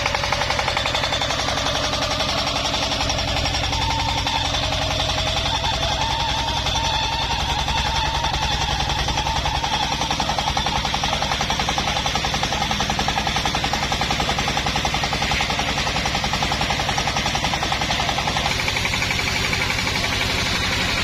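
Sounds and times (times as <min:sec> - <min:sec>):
chainsaw mill engine running: 0:00.0 - 0:21.0.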